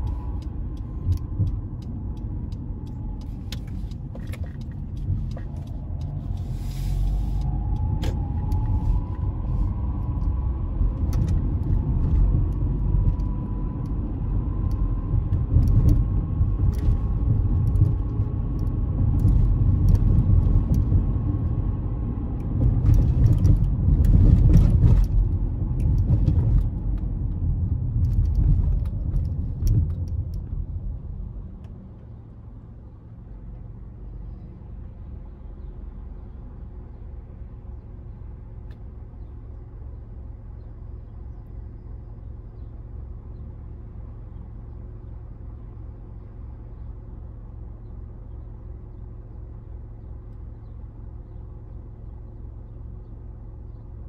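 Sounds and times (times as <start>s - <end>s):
car engine idling hum: 0.0s - 54.0s
car road and engine rumble: 0.0s - 54.0s.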